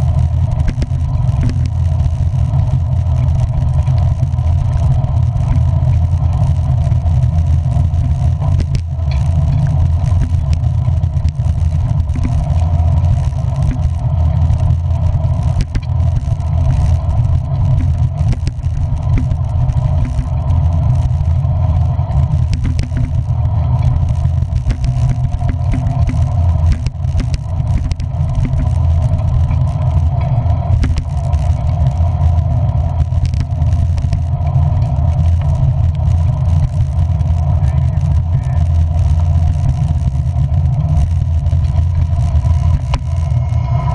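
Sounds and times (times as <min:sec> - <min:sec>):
engine and road noise drone: 0:00.0 - 0:43.9
faint ticks: 0:00.0 - 0:43.9.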